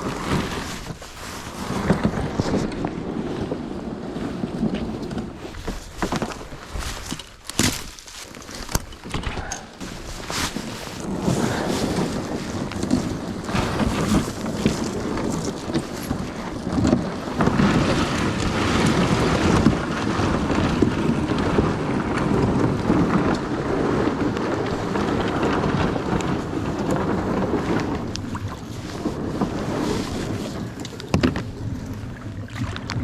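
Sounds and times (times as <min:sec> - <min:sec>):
water splashing along kayak: 0:00.0 - 0:33.0
wind buffeting microphone: 0:00.0 - 0:33.0.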